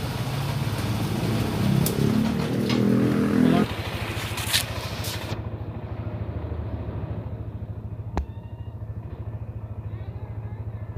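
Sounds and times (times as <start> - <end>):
scooter engine idling: 0.0 - 10.9.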